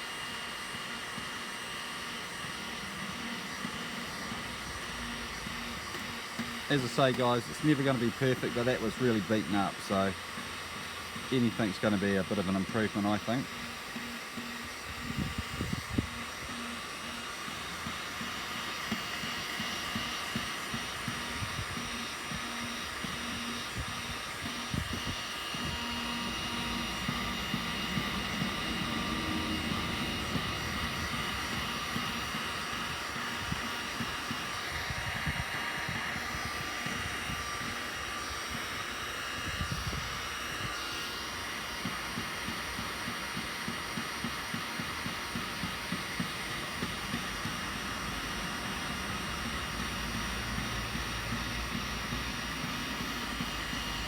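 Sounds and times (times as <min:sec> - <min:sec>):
heat gun blowing air: 0:00.0 - 0:54.0.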